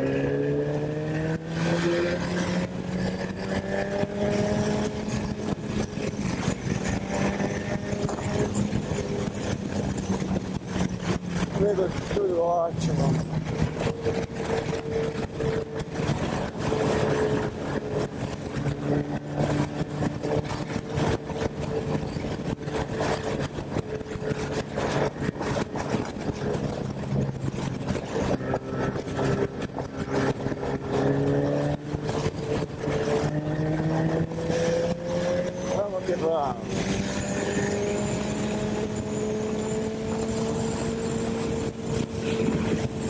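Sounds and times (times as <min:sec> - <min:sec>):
motorcycle engine accelerating: 0:00.0 - 0:43.0
wind buffeting microphone: 0:00.0 - 0:43.0.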